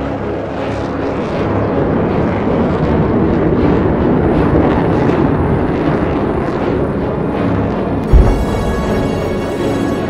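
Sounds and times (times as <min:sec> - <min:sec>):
jet engine roar: 0:01.0 - 0:10.0.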